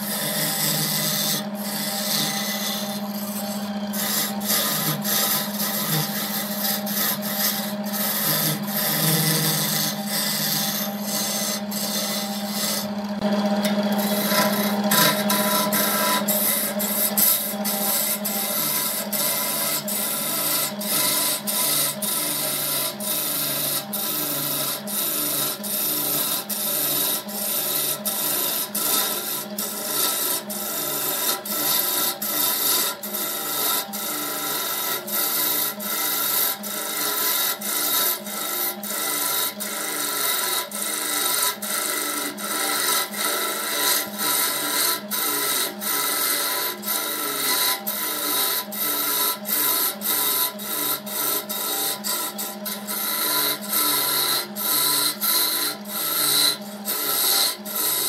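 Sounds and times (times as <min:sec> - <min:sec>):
turning tool scraping wood: 0:00.0 - 0:58.0
wood lathe humming: 0:00.0 - 0:58.0.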